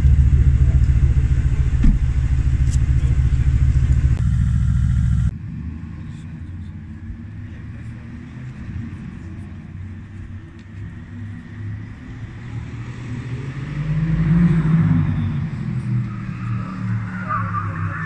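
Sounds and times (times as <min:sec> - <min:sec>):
distant car engine drone: 0:00.0 - 0:18.0.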